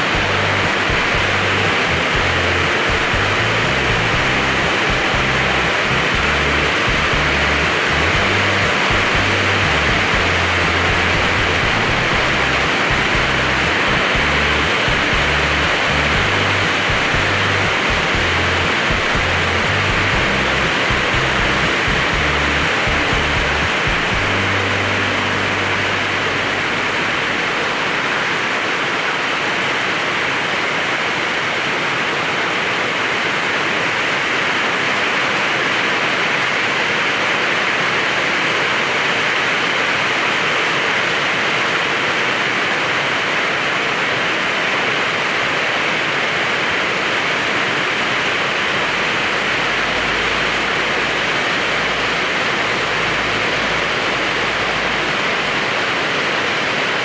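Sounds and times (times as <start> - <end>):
rain pouring: 0.0 - 57.0.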